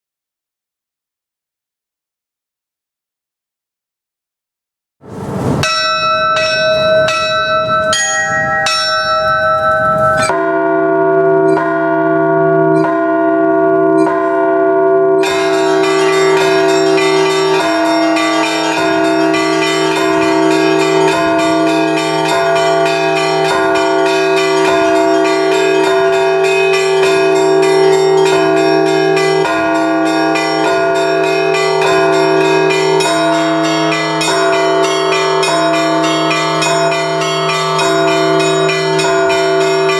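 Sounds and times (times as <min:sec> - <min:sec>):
deep church bells: 0:05.6 - 0:39.9
small high church bells: 0:05.6 - 0:39.9.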